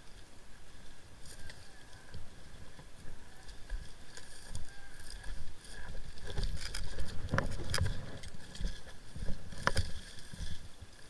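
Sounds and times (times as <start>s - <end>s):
footsteps crunching through scrub: 0.0s - 11.0s.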